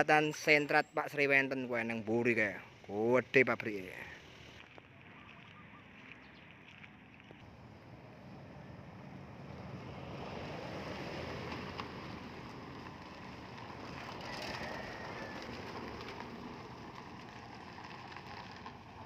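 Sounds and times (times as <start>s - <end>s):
cars driving past on rough road: 2.1s - 19.0s.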